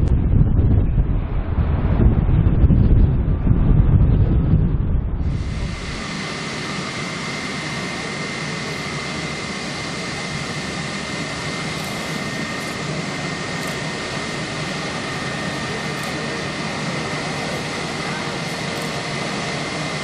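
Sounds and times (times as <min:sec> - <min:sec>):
jet engines roaring with high whine: 0:00.0 - 0:20.0.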